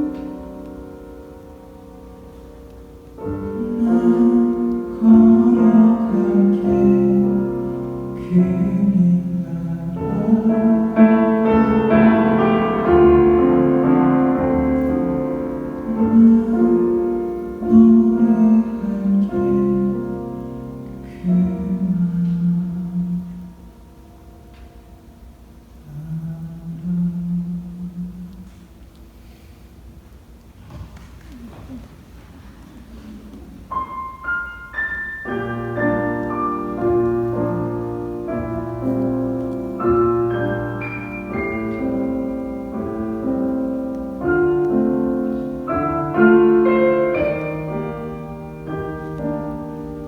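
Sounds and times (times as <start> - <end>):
piano playing slow chords: 0.0 - 29.5, 32.7 - 50.0.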